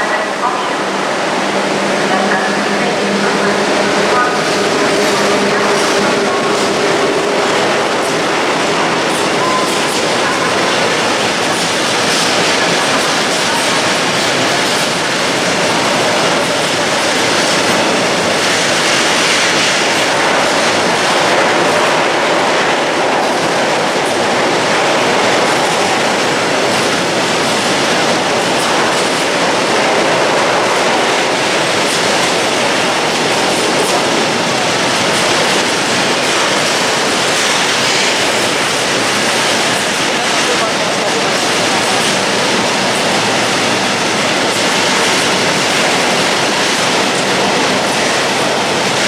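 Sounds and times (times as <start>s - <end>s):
freight train wheels clattering: 0.0s - 49.0s.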